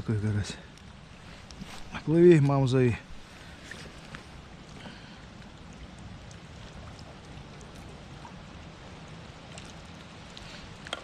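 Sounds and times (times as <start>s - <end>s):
rushing river hiss: 0.0s - 6.6s, 7.4s - 11.0s.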